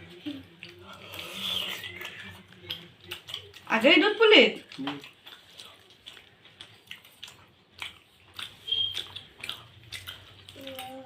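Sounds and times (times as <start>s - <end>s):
people chewing food: 0.0s - 11.0s
wet mouth clicks and smacks: 0.6s - 3.8s, 4.6s - 10.9s.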